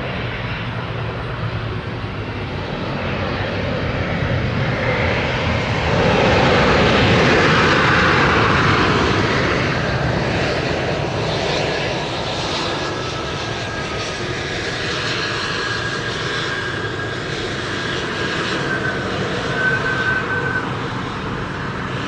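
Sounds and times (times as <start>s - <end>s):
jet engines rolling past: 0.0s - 22.0s.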